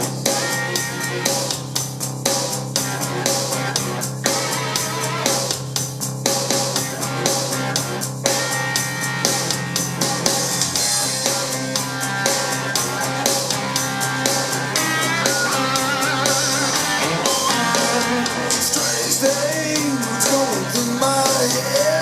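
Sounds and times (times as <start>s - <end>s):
rock song with singing: 0.0s - 22.0s.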